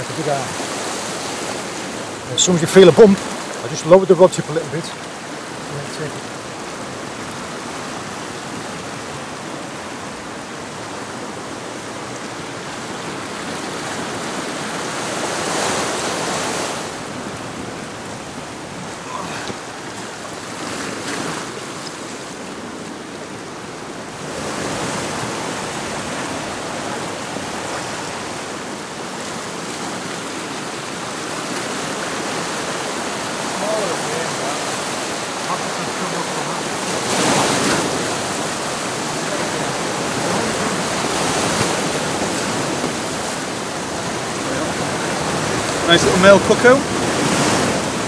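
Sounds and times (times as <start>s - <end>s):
sea washing against rocks: 0.0s - 48.0s.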